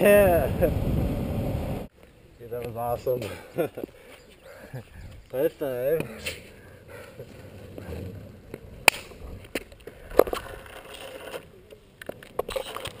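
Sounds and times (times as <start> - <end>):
longboard wheels rolling on pavement: 0.0 - 13.0.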